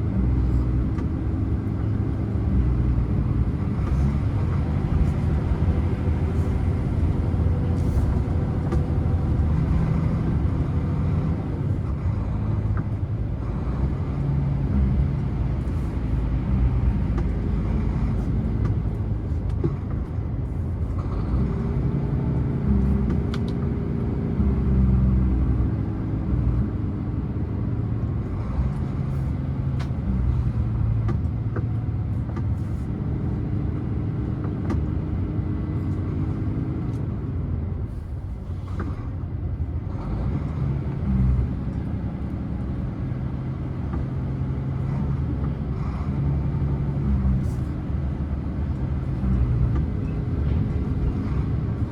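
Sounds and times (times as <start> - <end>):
road noise rumble: 0.0 - 51.9
truck diesel engine running: 0.0 - 51.9.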